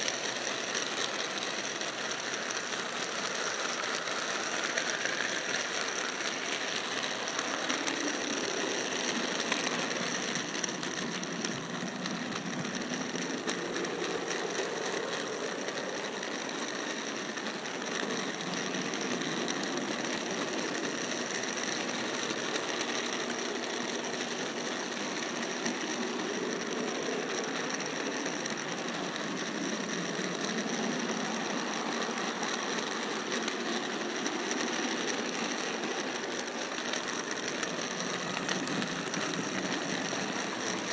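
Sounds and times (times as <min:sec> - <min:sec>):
model train whirring and clicking: 0:00.0 - 0:40.9.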